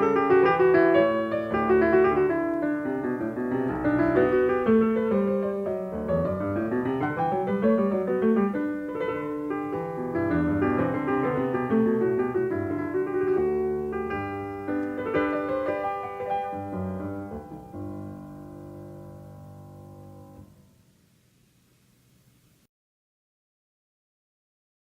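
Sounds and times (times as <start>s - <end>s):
piano music: 0.0s - 20.8s.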